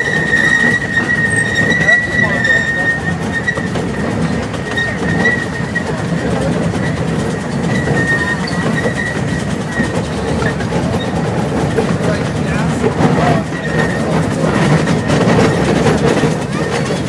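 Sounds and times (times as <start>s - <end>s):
high wheel squeal: 0.0s - 12.4s, 13.0s - 17.0s
train cars rumbling and clattering: 0.0s - 17.0s.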